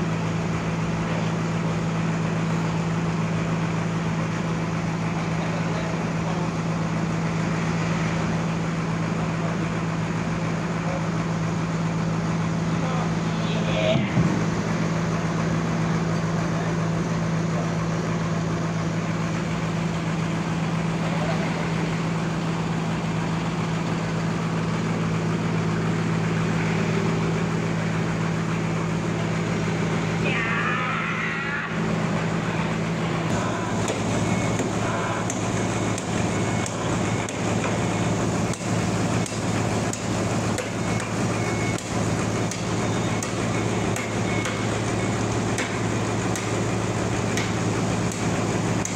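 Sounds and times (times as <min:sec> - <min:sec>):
sawmill engine humming: 0:00.0 - 0:48.9.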